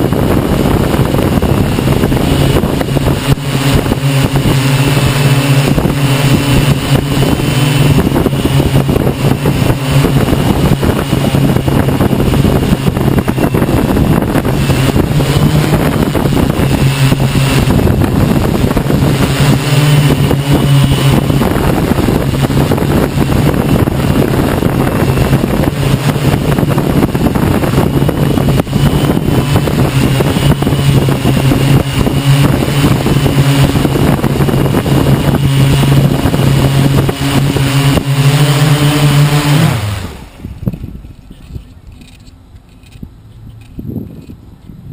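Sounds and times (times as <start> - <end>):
drone motors buzzing: 0.0 - 44.9
wind noise on microphone: 0.0 - 44.9.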